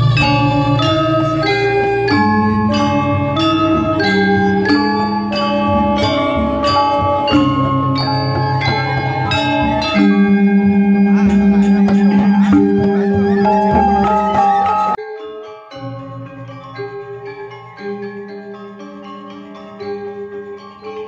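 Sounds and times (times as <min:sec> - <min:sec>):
metallophones and gongs ringing: 0:00.0 - 0:21.0.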